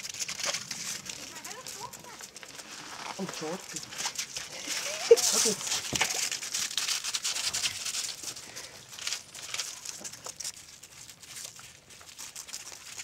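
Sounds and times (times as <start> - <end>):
footsteps crunching on snow: 0.0 - 13.0.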